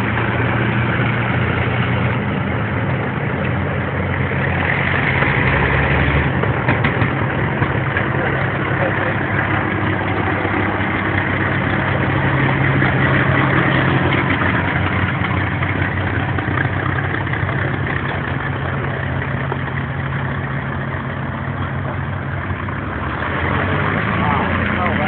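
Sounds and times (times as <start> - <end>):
aircraft engines droning: 0.0 - 25.0.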